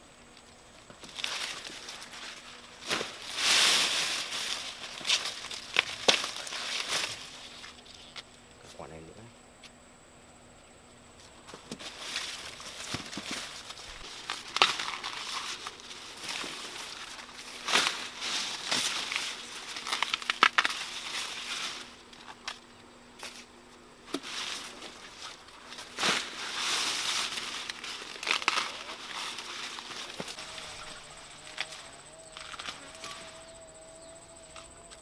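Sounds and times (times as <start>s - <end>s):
dry corn leaves rustling: 0.0s - 9.3s, 11.1s - 35.0s
corn ears snapping off: 0.8s - 8.4s, 11.5s - 33.6s, 34.5s - 35.0s.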